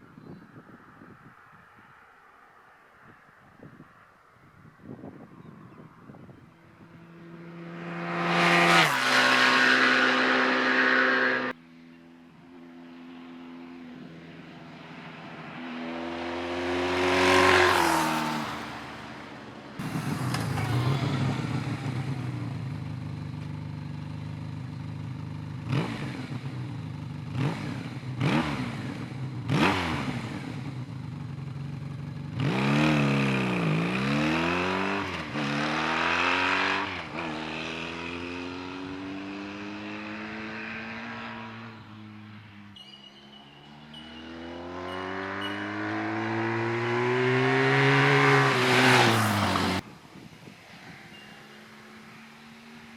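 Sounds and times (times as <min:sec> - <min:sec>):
motorcycle engine passing by: 0:05.8 - 0:11.6, 0:12.4 - 0:52.9.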